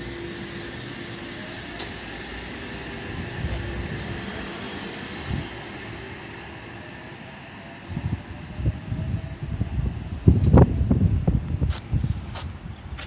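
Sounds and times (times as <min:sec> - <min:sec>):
electric train rumble and whine: 0:00.0 - 0:13.0.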